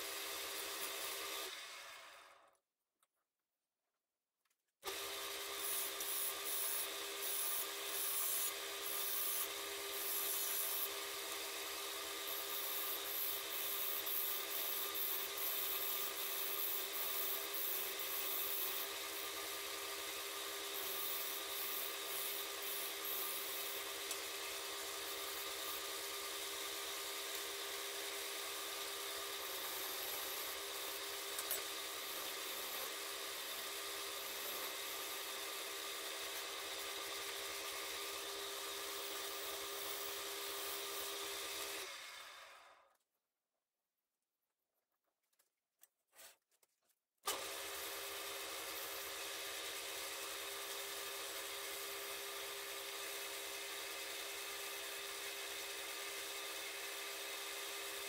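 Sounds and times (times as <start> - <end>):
wood lathe motor hum: 4.9 - 42.8, 47.3 - 58.0.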